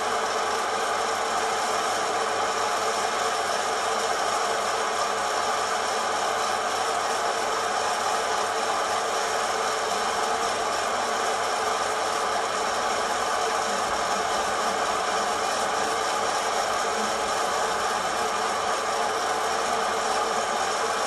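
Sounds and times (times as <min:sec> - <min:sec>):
hot-air fan rushing: 0:00.0 - 0:21.0.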